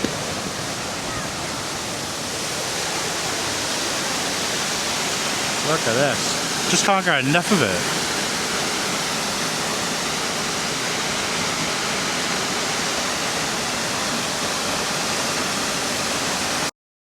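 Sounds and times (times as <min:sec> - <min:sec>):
waterfall rushing over rocks: 0:00.0 - 0:16.7.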